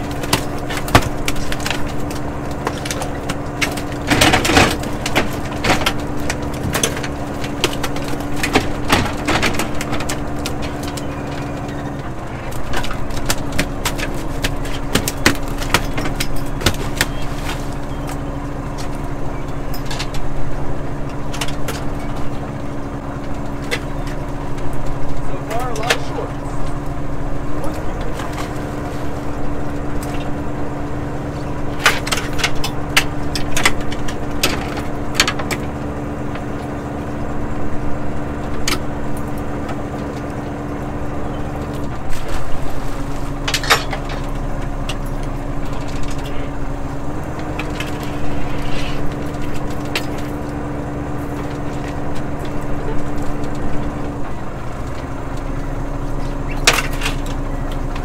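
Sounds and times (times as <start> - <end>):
boat engine and machinery hum: 0.0 - 58.0
clicks and knocks of gear: 0.0 - 58.0.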